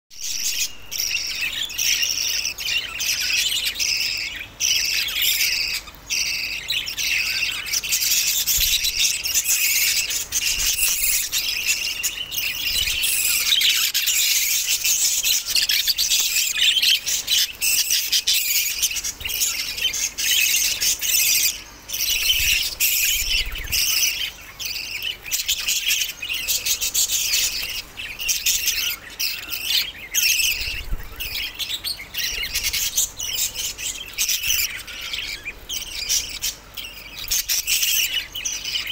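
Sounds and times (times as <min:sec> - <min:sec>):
budgerigars chattering and chirping: 0:00.2 - 0:38.9.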